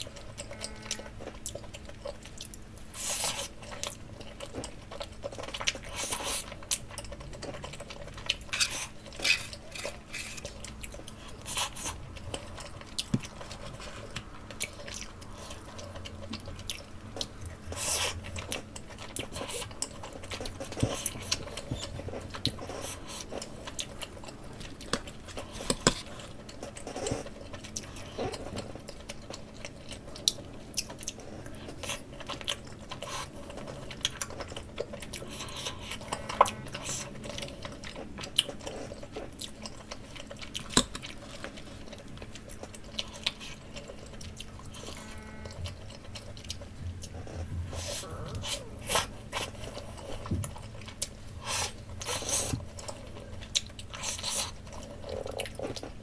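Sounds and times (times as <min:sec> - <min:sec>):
wet chewing sounds: 0:00.0 - 0:56.0.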